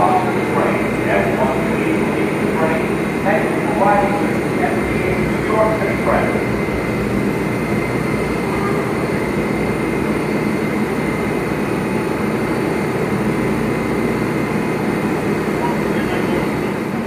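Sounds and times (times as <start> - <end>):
subway train drone: 0.0 - 17.0.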